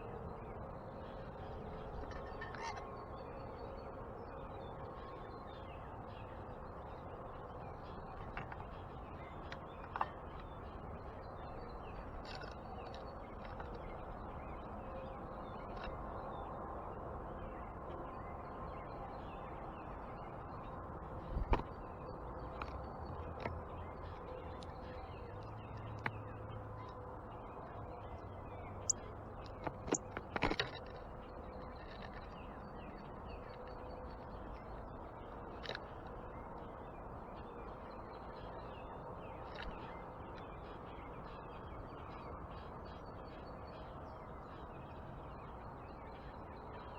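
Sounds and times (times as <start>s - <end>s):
steady outdoor rumble: 0.0s - 46.9s.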